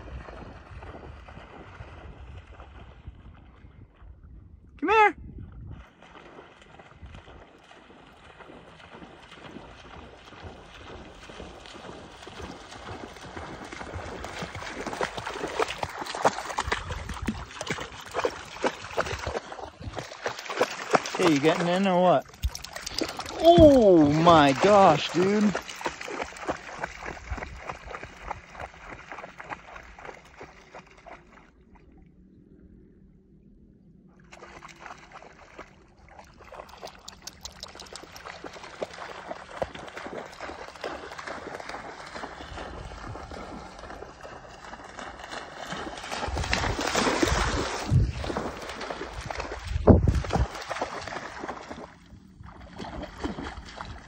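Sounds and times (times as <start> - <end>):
dog splashing through water: 5.8 - 31.4, 34.3 - 54.0.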